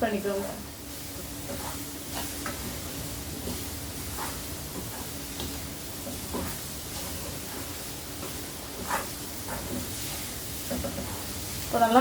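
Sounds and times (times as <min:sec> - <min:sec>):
food sizzling in oil: 0:00.0 - 0:12.0
spoon scraping a pan: 0:01.4 - 0:11.6.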